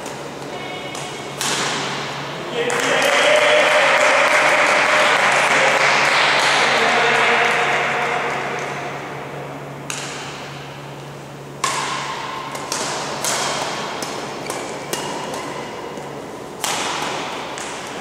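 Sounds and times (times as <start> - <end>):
rackets hitting shuttlecock: 0.0 - 4.6, 5.2 - 18.0.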